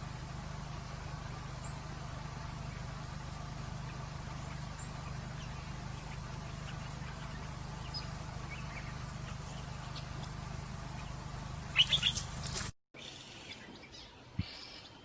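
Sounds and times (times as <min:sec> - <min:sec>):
low hum: 0:00.0 - 0:12.8
small birds chirping: 0:00.0 - 0:15.0.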